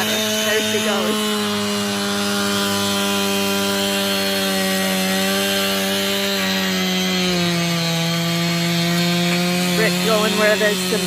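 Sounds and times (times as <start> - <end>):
chainsaw cutting into log: 0.0 - 11.0.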